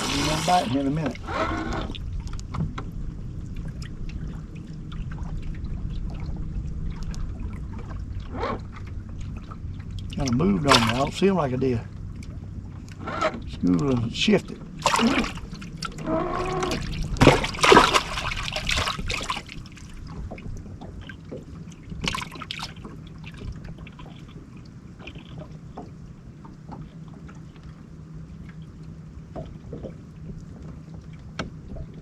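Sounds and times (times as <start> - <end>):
steady low hum: 0.0 - 32.0
water lapping against boat hull: 0.0 - 32.0.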